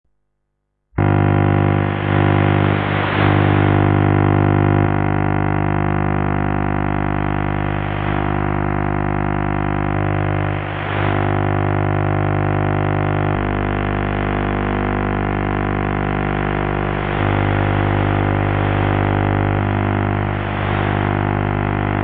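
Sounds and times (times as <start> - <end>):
harsh video buzz drone: 1.0 - 22.0
radio hiss: 1.0 - 22.0.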